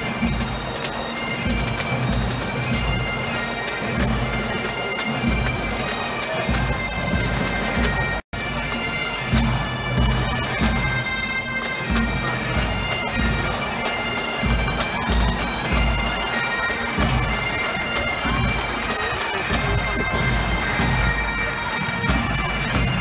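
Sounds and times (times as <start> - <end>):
bagpipes playing a tune: 0.0 - 23.0
drum beats: 0.0 - 23.0.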